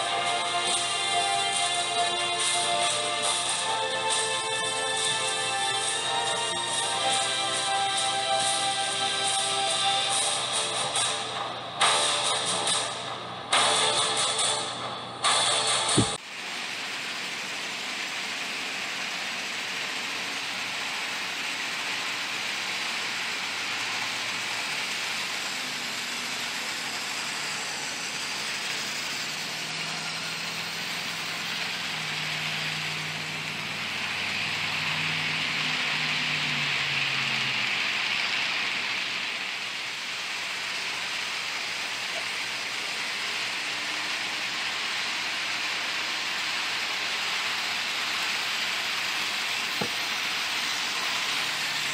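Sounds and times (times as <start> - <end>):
model train motor whirring: 0.0 - 51.9.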